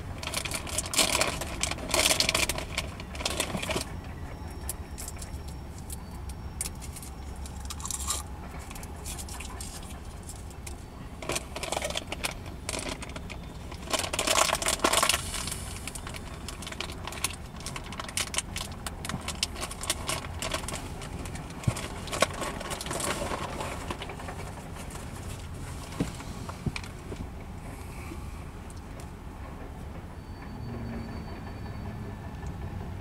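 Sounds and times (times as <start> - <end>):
distant freight cars rumbling: 0.0 - 33.0.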